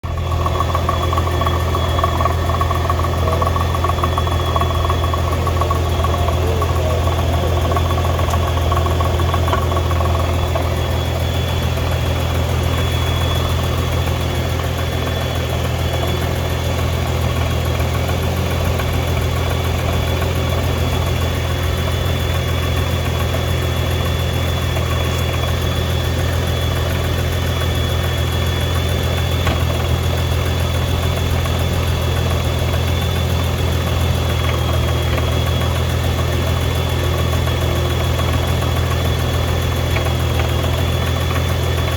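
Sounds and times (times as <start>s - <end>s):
car engine idling: 0.0s - 41.9s
rattle and clunk: 0.1s - 41.9s.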